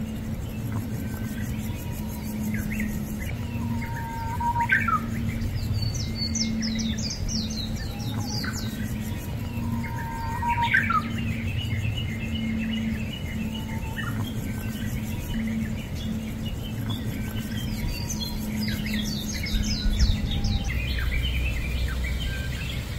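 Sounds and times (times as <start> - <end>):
low hum: 0.0 - 22.9
small birds chirping: 0.0 - 22.9.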